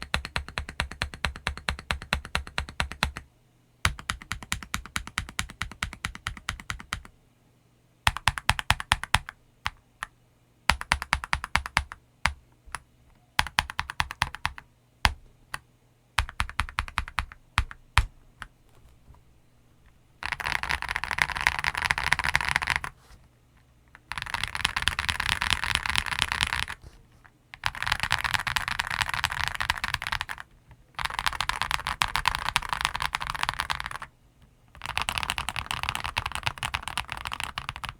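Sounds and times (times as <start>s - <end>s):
mechanical keyboard typing: 0.0s - 3.2s, 3.9s - 7.1s, 8.1s - 10.1s, 10.7s - 12.8s, 13.4s - 15.6s, 16.2s - 18.5s, 20.2s - 22.9s, 24.0s - 26.8s, 27.6s - 34.1s, 34.7s - 37.9s.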